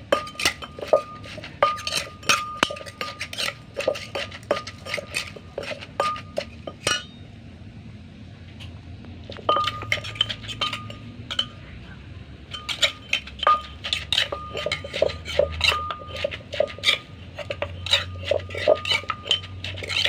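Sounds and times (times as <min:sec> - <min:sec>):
metal spoon scraping bowl: 0:00.0 - 0:07.2, 0:09.3 - 0:11.6, 0:12.5 - 0:20.0
pestle pounding in mortar: 0:00.1 - 0:07.0, 0:09.3 - 0:11.5, 0:12.5 - 0:20.0.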